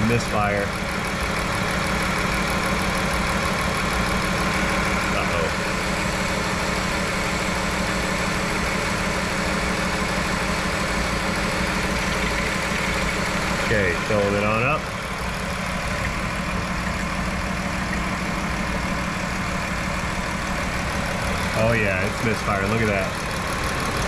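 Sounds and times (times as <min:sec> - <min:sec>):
car engine idling with misfire: 0:00.0 - 0:24.0.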